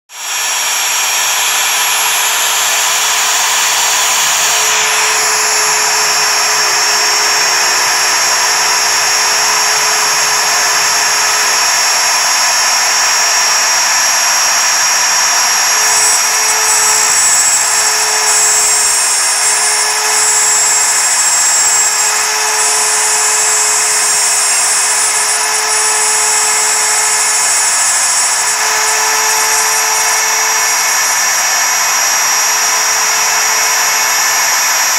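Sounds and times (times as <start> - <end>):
spindle whining while cutting metal: 0.1 - 34.9.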